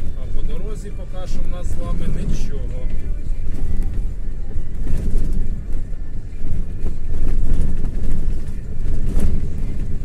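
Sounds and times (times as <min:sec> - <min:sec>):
truck engine and tyres rumbling: 0:00.0 - 0:10.0.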